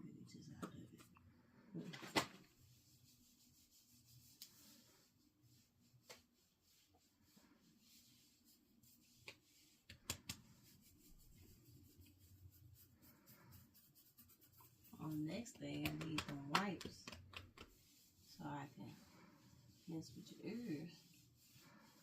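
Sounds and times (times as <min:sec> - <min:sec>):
faint rubbing: 0:02.5 - 0:22.0.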